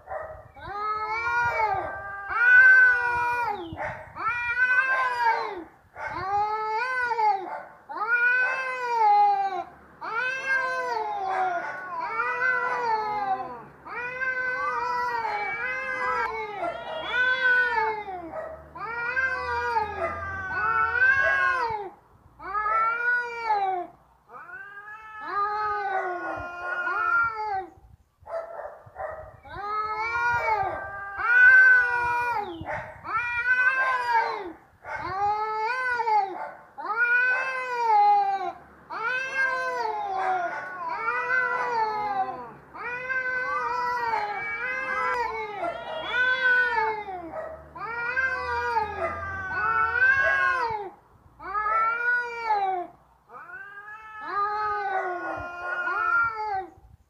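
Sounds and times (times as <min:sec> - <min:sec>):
cats yowling: 0:00.0 - 0:27.7, 0:29.4 - 0:56.8.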